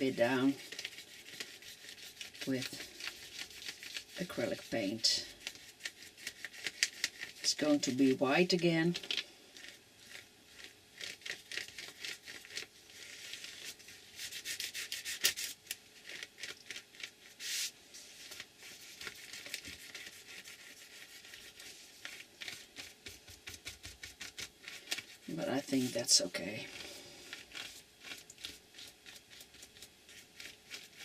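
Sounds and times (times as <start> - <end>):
paintbrush stroking on paper: 0.0 - 8.9, 9.5 - 16.4, 17.3 - 31.0.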